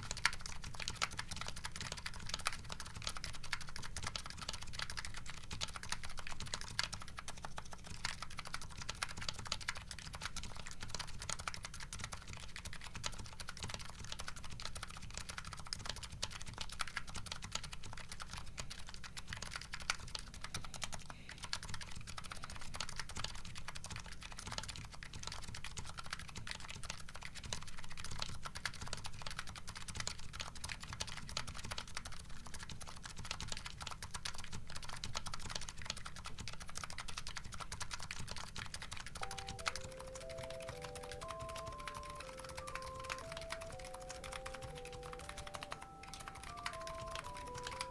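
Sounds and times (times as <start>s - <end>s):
keyboard typing clicks: 0.0s - 47.9s.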